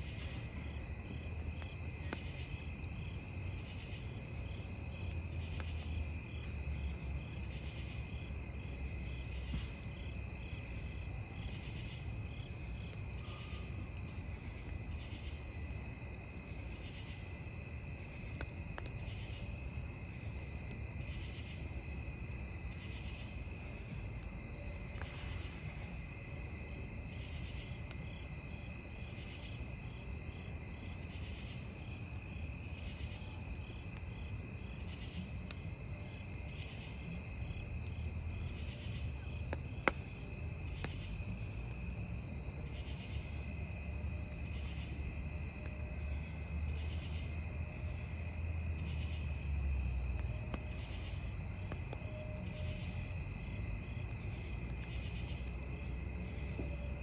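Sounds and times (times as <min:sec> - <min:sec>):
campfire burning: 0:00.0 - 0:57.0
crickets chirping: 0:00.0 - 0:57.0.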